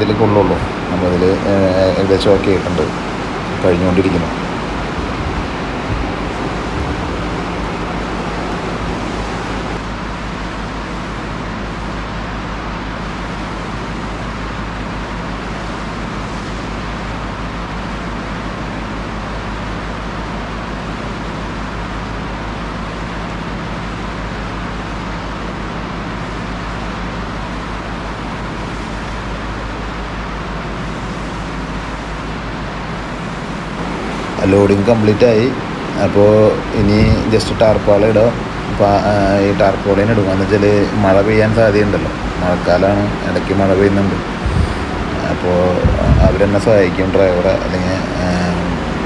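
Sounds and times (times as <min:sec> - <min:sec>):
low hum: 0:00.0 - 0:17.6, 0:26.2 - 0:49.0
conveyor belt running: 0:00.0 - 0:49.0
industrial machinery din: 0:00.0 - 0:49.0.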